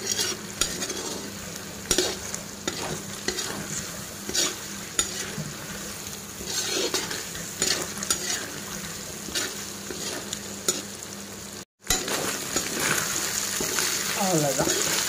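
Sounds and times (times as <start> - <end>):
metal spatula scraping pan: 0.0 - 5.8, 6.4 - 10.9, 11.9 - 15.0
chicken sizzling in oil: 0.0 - 15.0.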